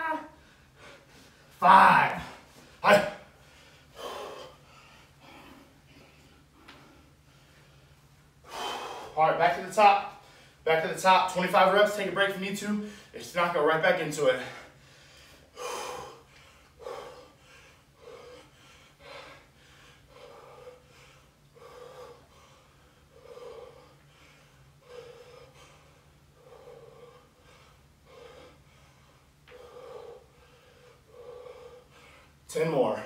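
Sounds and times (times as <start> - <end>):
man breathing hard: 0.3 - 10.7, 12.8 - 13.2, 14.2 - 32.5.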